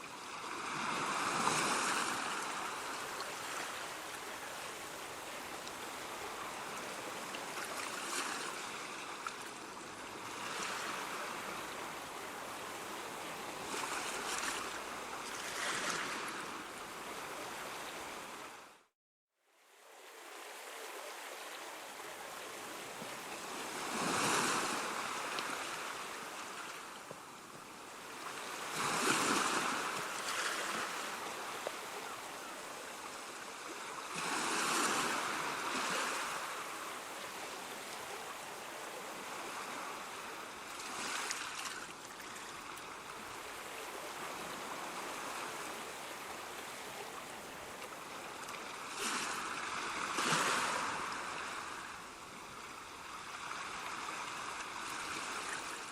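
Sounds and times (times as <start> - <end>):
sea waves breaking on shore: 0.0 - 18.8, 19.7 - 55.9
surf wash: 0.0 - 18.8, 19.8 - 55.9.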